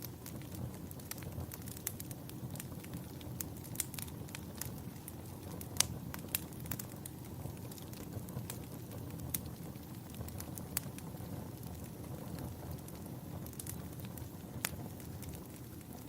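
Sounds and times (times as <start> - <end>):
campfire flames rumbling: 0.0 - 16.0
wood crackling and popping: 0.0 - 16.0.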